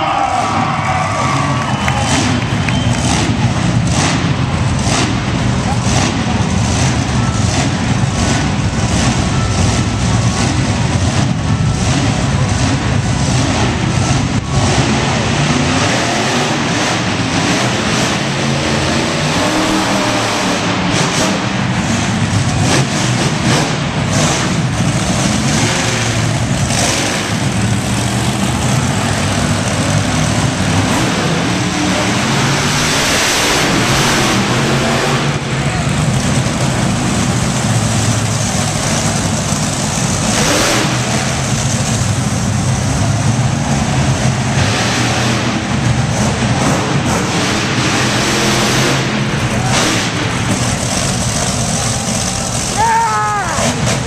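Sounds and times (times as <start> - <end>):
truck engines revving loudly: 0.0 - 54.0.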